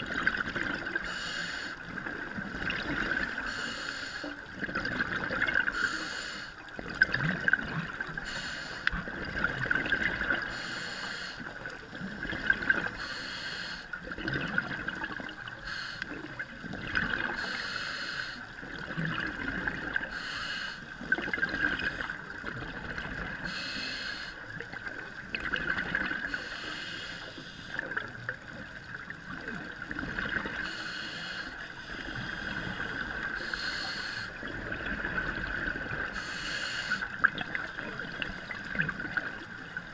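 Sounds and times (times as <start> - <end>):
underwater regulator bubbles: 0.0 - 13.2, 13.8 - 26.4, 27.7 - 39.9.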